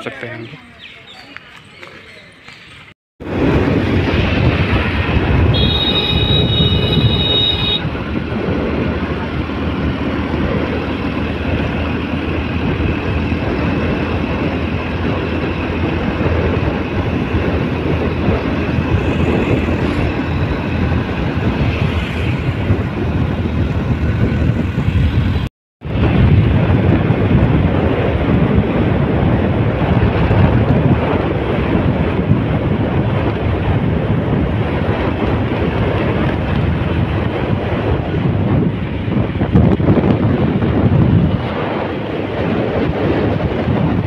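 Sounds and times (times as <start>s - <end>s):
motorbike road noise: 0.0s - 44.0s
wind rushing on microphone: 0.0s - 44.0s.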